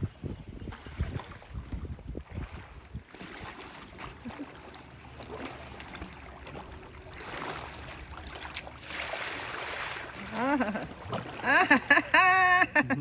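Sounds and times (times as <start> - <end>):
paddle splashing water: 0.7 - 12.8.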